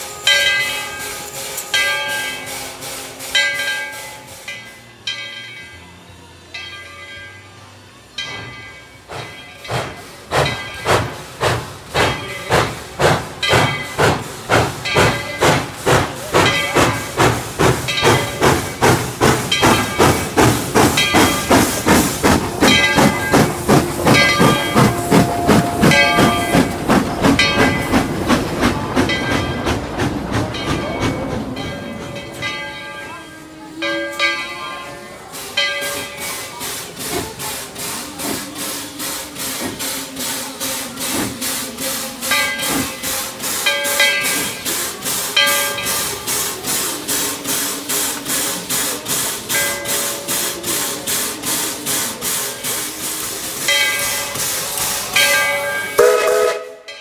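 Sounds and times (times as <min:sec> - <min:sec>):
hissing steam: 0:00.0 - 0:05.0, 0:08.2 - 0:56.6
steam locomotive exhaust chuffs: 0:00.0 - 0:56.9
locomotive bell ringing: 0:00.0 - 0:57.0.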